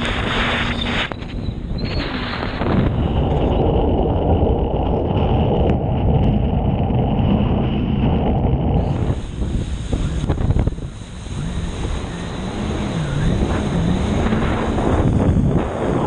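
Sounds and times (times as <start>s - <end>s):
jet ski engine rumble: 0.0s - 16.0s
wind buffeting microphone: 0.0s - 16.0s.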